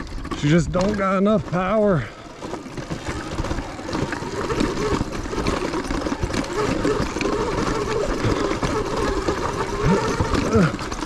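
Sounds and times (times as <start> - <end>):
clicks and crunches over rock: 0.0 - 11.0
electric motor whining: 0.0 - 11.0.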